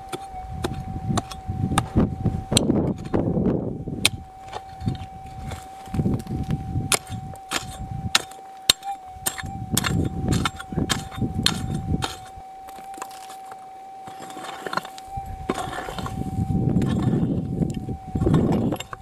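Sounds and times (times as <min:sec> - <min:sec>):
pick striking stony ground: 0:00.0 - 0:03.2, 0:04.0 - 0:16.2, 0:16.8 - 0:19.0
wind on microphone: 0:00.0 - 0:08.2, 0:09.0 - 0:12.5, 0:14.4 - 0:19.0
metal detector humming tone: 0:00.0 - 0:19.0.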